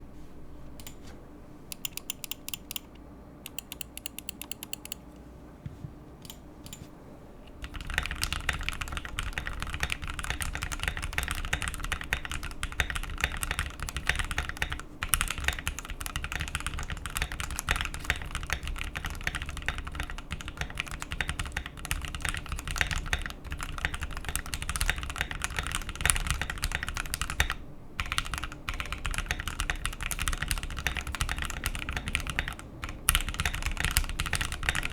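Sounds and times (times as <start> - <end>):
mechanical keyboard typing: 1.7 - 2.9, 3.5 - 5.0, 7.6 - 34.9.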